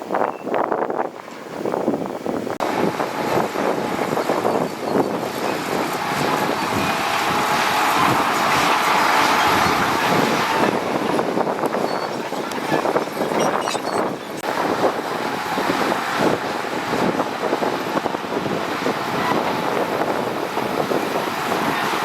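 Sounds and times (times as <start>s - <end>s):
heavy machinery grinding stone: 2.6s - 13.7s, 14.4s - 22.0s.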